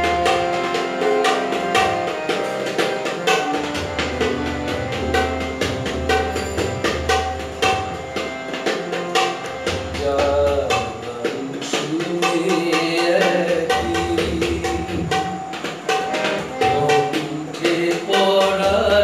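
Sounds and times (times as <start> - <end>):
harmonium melody: 0.0 - 19.0
tabla drumming: 0.0 - 19.0.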